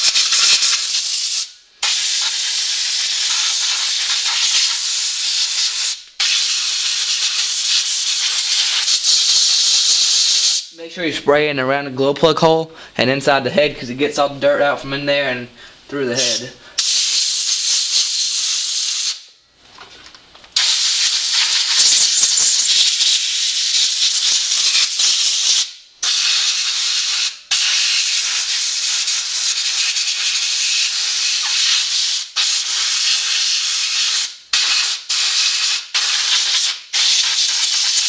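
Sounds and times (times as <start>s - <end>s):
air blow gun hissing: 0.0s - 10.9s, 16.2s - 19.3s, 20.6s - 38.0s.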